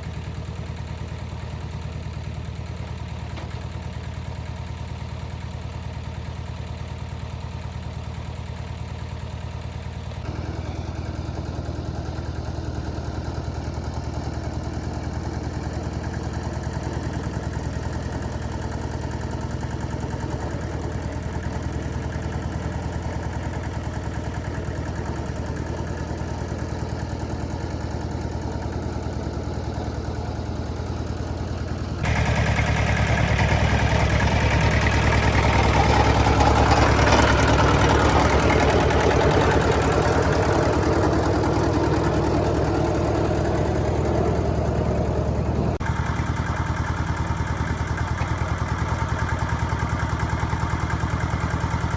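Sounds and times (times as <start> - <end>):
vehicle engine idling: 0.0 - 51.9.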